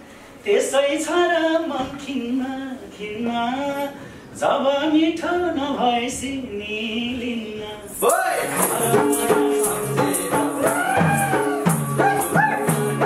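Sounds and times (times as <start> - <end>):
man singing unaccompanied: 0.4 - 13.0.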